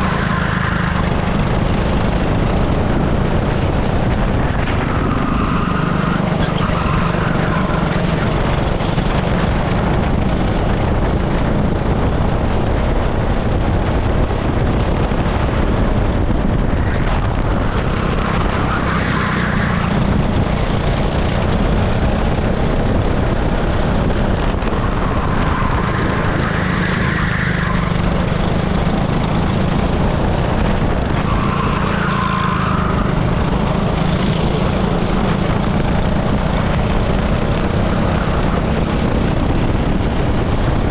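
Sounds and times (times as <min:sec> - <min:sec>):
kart engine at racing speed: 0:00.0 - 0:40.9
wind rush on microphone: 0:00.0 - 0:40.9.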